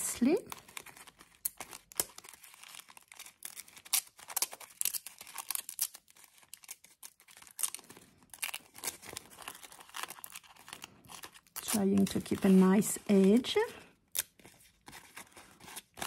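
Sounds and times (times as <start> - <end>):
paper crinkling: 0.0 - 16.0.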